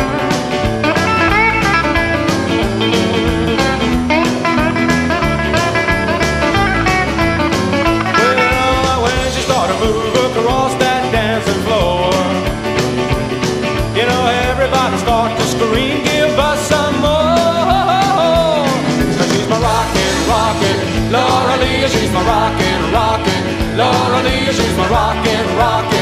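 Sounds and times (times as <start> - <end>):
rock and roll song with vocals: 0.0 - 26.0
steady drumbeat: 0.0 - 26.0.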